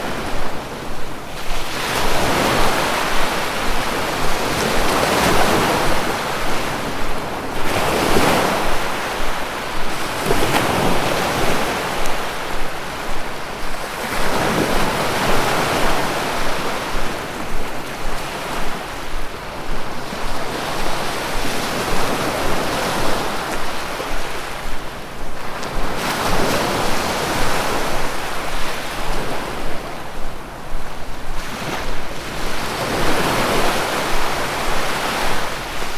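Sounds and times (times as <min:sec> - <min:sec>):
sea waves breaking on shore: 0:00.0 - 0:35.9.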